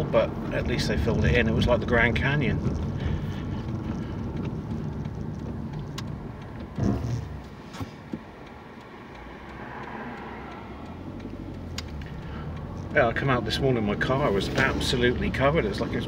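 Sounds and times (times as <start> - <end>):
car engine idling: 0.0 - 16.0
road noise inside car: 0.0 - 16.0.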